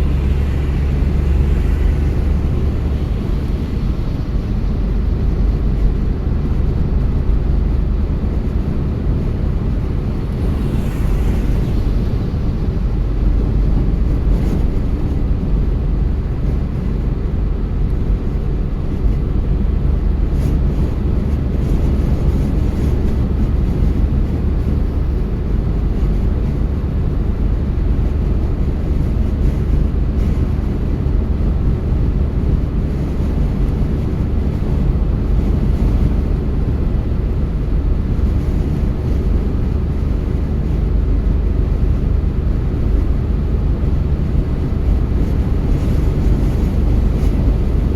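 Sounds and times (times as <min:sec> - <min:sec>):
car driving on road: 0:00.0 - 0:47.9.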